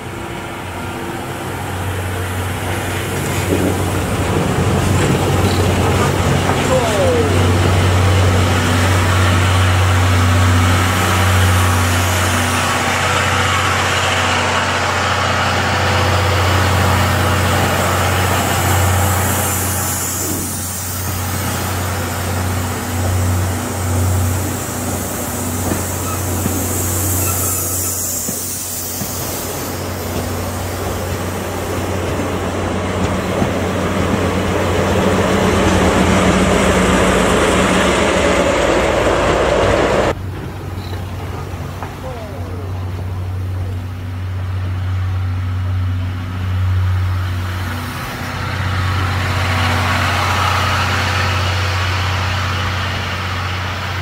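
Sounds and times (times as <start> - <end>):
low diesel engine drone: 0.0 - 54.0
rush of passing train cars: 0.0 - 54.0.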